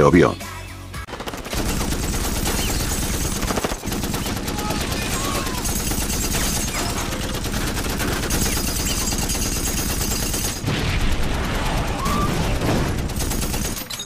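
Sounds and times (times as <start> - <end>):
rapid machine-gun fire: 1.1 - 14.0.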